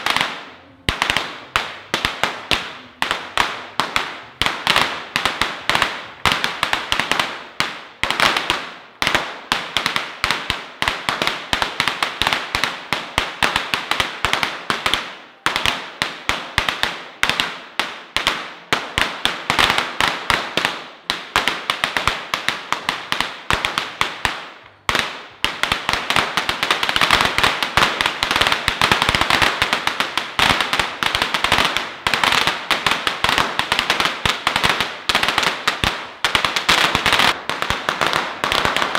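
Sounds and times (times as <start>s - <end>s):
firecrackers banging: 0.0s - 38.9s.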